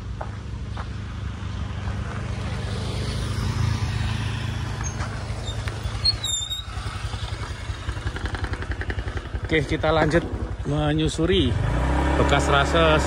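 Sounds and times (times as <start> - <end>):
scooter engines running: 0.0 - 13.0.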